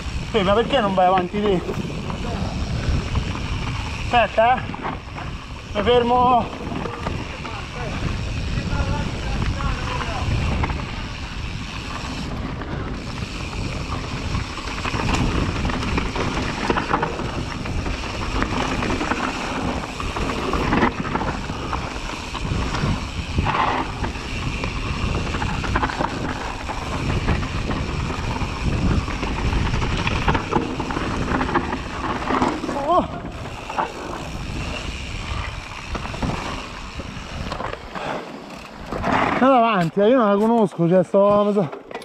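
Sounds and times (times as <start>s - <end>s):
wind on microphone: 0.0s - 38.0s
tyres rolling over dirt: 0.0s - 40.9s
bike knocking and rattling: 0.0s - 42.0s.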